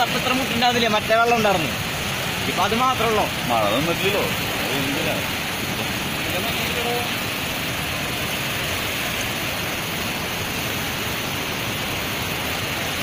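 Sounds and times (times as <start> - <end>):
floodwater rushing through dam: 0.0 - 13.0.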